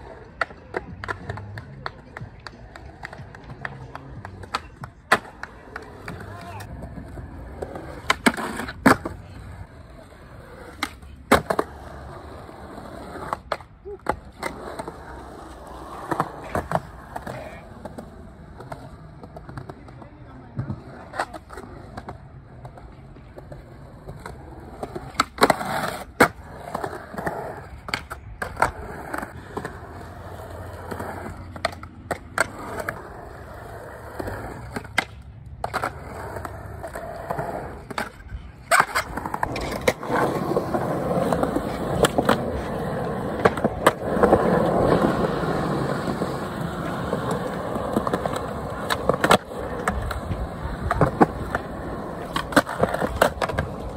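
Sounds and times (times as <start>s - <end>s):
skateboard clacks: 0.0s - 53.9s
skateboard wheels rolling on concrete: 0.0s - 53.9s.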